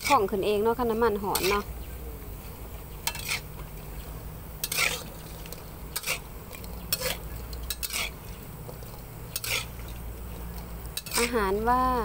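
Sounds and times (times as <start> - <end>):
spatula scraping a pan: 0.0 - 0.4, 1.1 - 1.8, 2.4 - 11.7
faint sizzling: 0.0 - 12.0.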